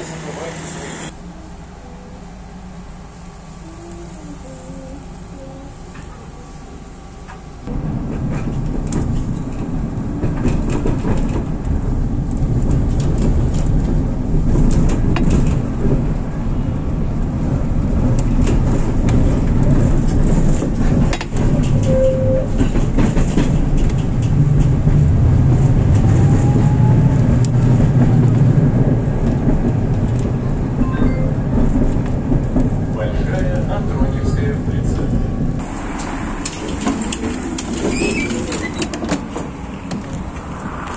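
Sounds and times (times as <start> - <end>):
tram wheels and motors rumbling: 0.0 - 40.9.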